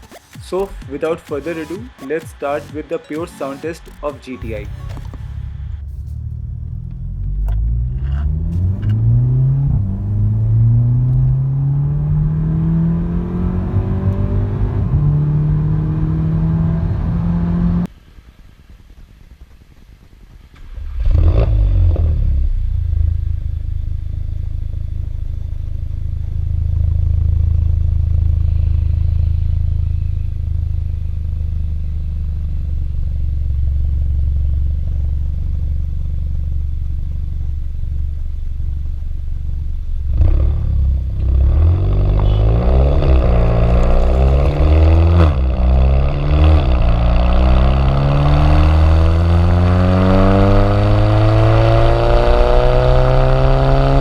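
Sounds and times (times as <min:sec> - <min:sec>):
car engine starting and idling: 0:00.0 - 0:54.0
car engine revving: 0:03.5 - 0:17.9, 0:20.6 - 0:54.0.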